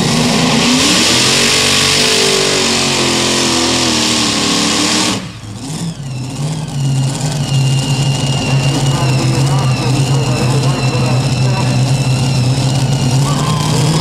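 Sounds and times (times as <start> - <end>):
engine whine rising and falling: 0.0 - 14.0
pulling tractor engine roar: 0.0 - 14.0.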